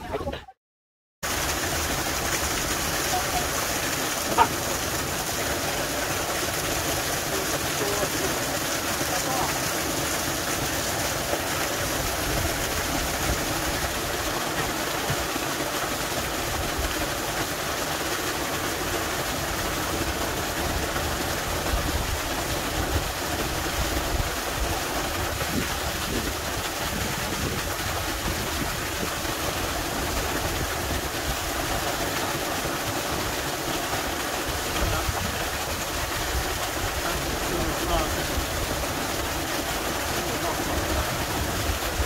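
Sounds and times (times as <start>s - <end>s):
waterfall rushing: 1.2s - 42.0s.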